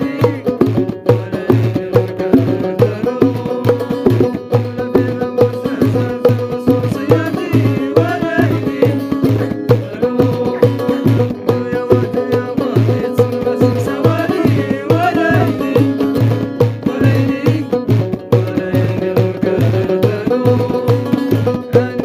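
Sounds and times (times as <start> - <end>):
banjo and lute plucked: 0.0 - 22.0
frame drum beat: 0.0 - 22.0
men singing: 0.0 - 22.0.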